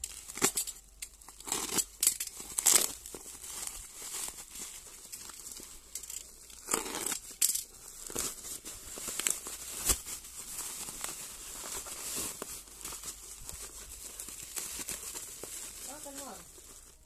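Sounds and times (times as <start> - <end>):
plastic bag and bubble wrap crinkling: 0.0 - 17.0.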